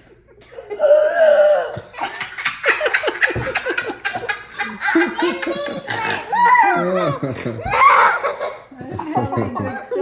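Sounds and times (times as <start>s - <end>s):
people laughing: 1.7s - 10.0s.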